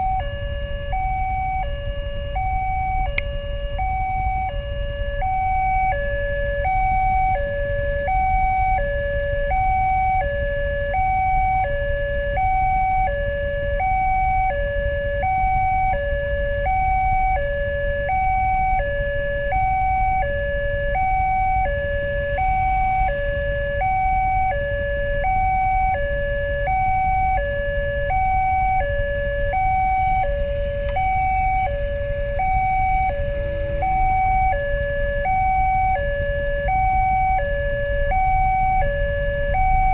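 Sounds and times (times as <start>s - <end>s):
idling motorcycles and traffic: 0.0s - 39.9s
level crossing two-tone alarm: 0.0s - 39.9s.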